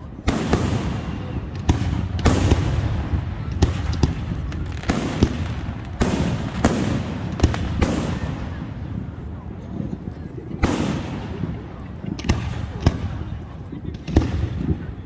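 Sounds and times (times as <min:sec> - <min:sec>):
fireworks crackling hiss: 0:00.0 - 0:09.8, 0:10.5 - 0:13.3
fireworks banging: 0:00.0 - 0:15.0.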